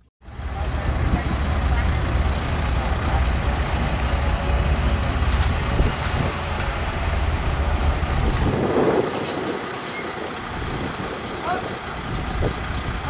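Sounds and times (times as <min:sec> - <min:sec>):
bulldozer diesel engine rumble: 0:00.0 - 0:13.0.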